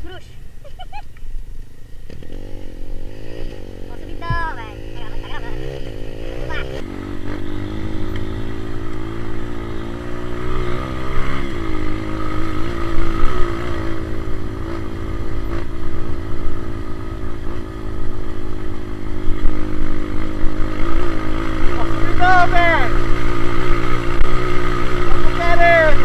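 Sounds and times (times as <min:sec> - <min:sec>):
dirt bike engine revving uphill: 0:01.8 - 0:26.0.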